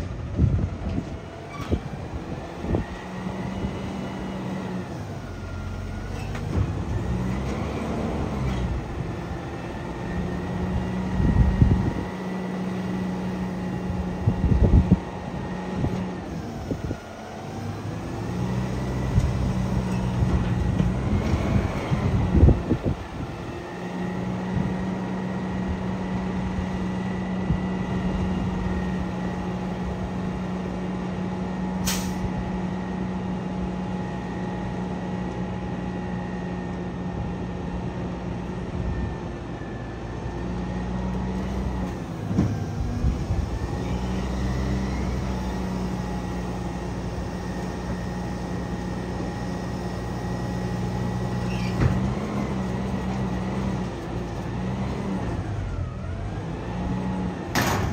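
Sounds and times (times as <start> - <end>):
garbage truck engine humming: 0.0 - 57.9.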